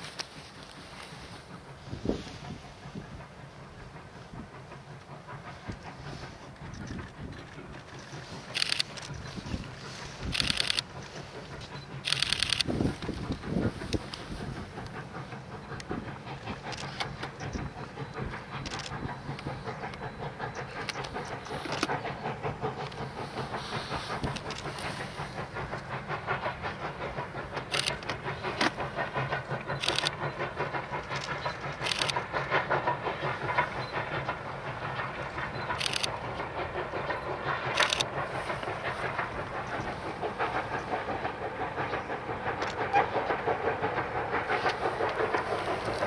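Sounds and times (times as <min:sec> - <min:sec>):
steam locomotive chuffing: 0:00.0 - 0:46.0
train cars rattling: 0:00.0 - 0:46.0
sharp clacks: 0:05.0 - 0:46.0.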